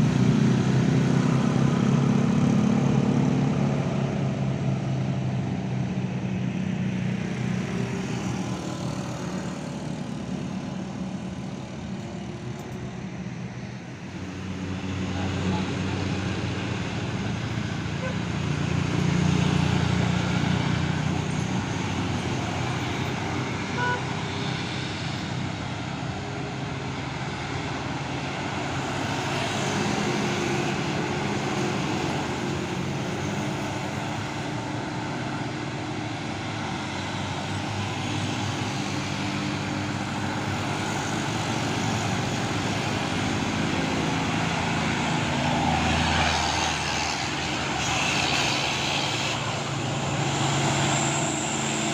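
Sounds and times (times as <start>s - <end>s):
heavy diesel trucks labouring: 0.0s - 51.9s
road traffic noise: 0.0s - 51.9s.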